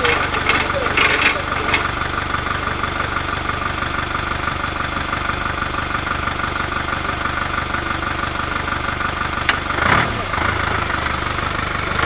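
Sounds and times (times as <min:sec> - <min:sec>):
steady whine: 0:00.0 - 0:09.7
engine idling: 0:00.0 - 0:12.0.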